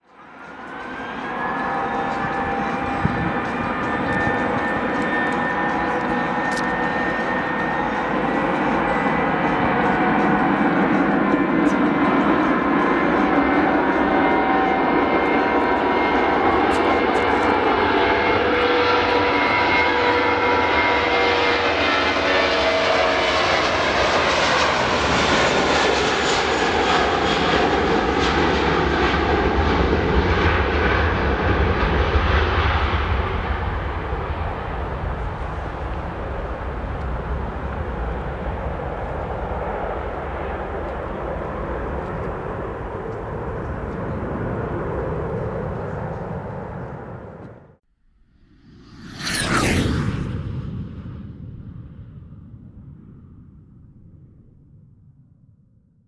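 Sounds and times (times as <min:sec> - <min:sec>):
jet airliner engines roaring: 0:00.0 - 0:47.8, 0:48.4 - 0:54.6.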